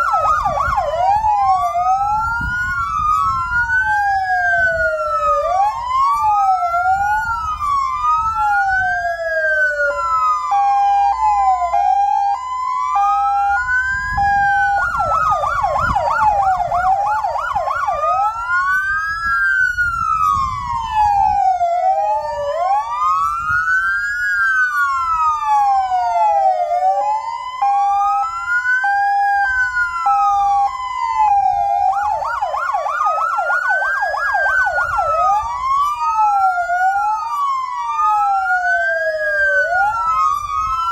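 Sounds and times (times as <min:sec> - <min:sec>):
fast siren yelp: 0:00.0 - 0:40.9
hi-lo siren: 0:00.0 - 0:40.9
wailing sirens: 0:00.0 - 0:40.9.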